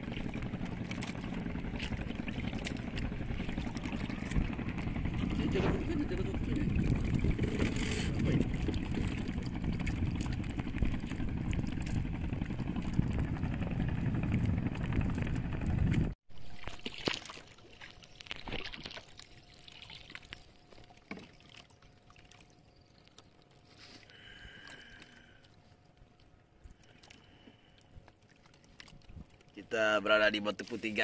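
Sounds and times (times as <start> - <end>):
boat motor and water rush: 0.0 - 31.0
water lapping against hull: 0.0 - 31.0.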